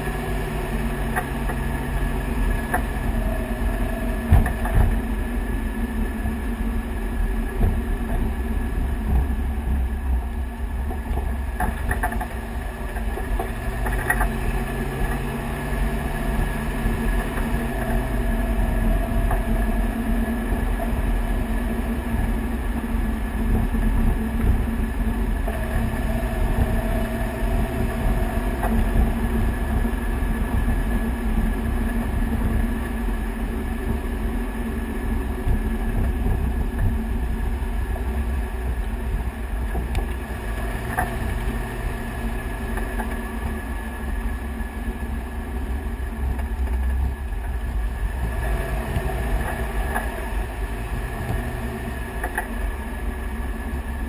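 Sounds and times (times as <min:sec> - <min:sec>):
low road rumble: 0:00.0 - 0:54.0.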